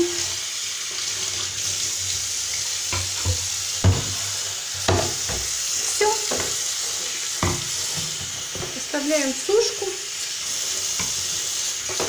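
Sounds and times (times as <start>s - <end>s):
tap water running and splashing: 0.0s - 12.0s.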